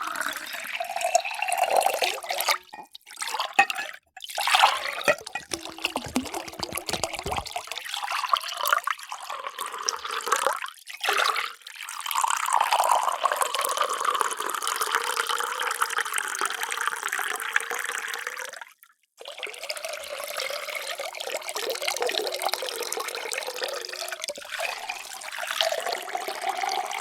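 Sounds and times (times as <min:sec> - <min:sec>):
water pouring into a container: 0:00.0 - 0:18.6, 0:19.2 - 0:27.0.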